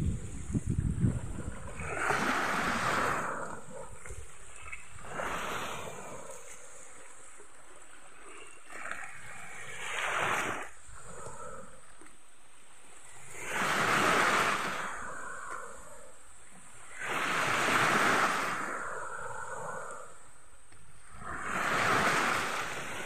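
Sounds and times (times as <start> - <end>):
small waves washing up beach: 0.0 - 23.0.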